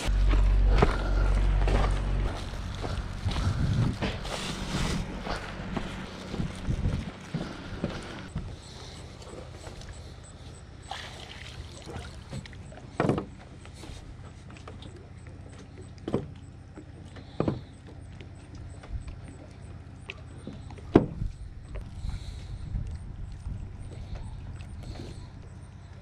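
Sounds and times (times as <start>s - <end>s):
lake water washing: 2.4s - 26.0s.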